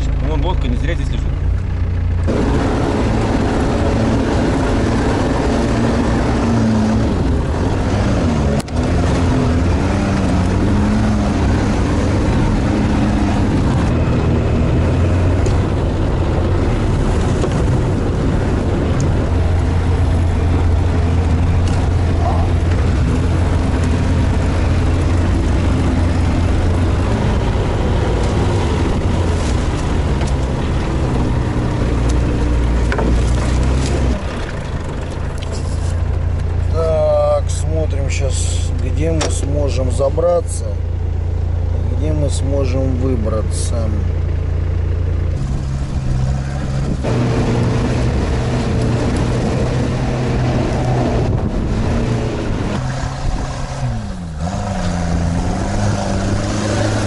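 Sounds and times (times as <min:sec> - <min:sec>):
all-terrain vehicle engine running: 0:00.0 - 0:57.0.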